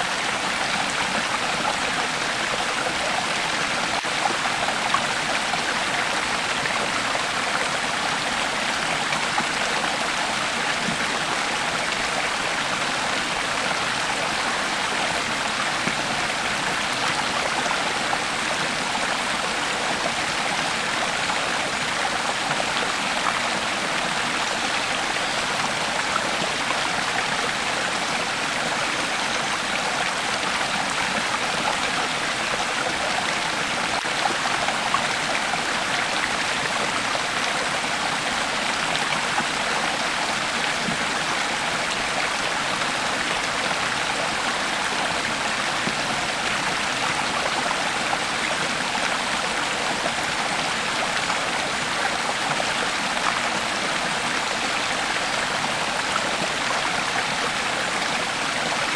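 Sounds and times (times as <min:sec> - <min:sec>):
creek water flowing over rocks: 0:00.0 - 0:58.9.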